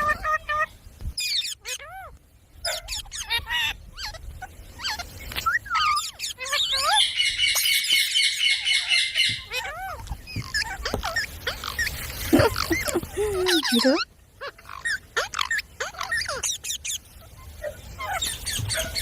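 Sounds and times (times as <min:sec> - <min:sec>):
parrot harsh chatter: 0:00.0 - 0:19.0.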